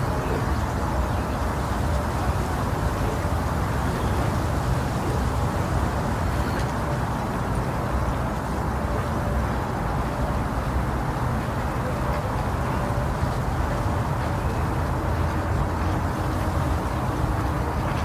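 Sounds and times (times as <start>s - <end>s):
low rushing white noise: 0.0s - 18.0s.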